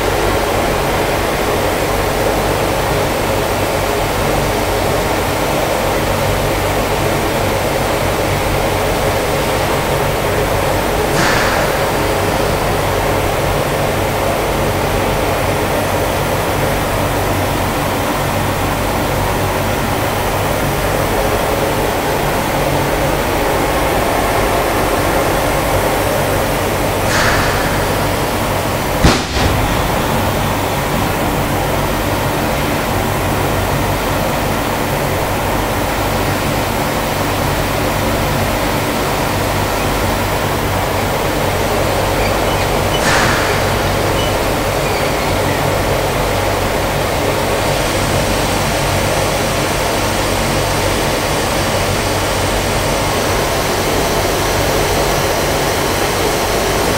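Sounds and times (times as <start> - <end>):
rushing air and machinery: 8.8 - 16.0, 17.8 - 56.9.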